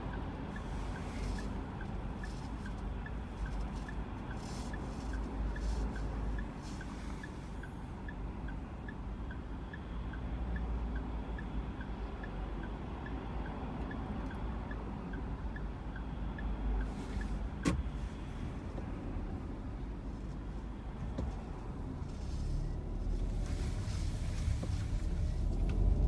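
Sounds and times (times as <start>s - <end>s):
low hum of stationary car: 0.0s - 26.0s
turn signal ticking: 0.0s - 26.0s.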